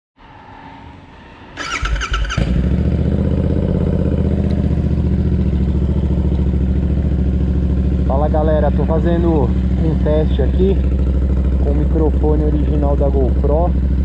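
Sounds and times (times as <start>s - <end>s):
motorcycle engine idling loudly: 2.3s - 14.0s.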